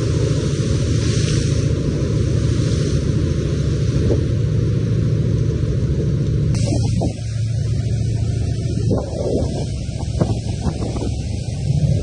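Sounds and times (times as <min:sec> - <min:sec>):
boat engine rumble: 0:00.0 - 0:12.0
water wash and breaking spray: 0:00.0 - 0:12.0
wind hiss: 0:00.0 - 0:12.0.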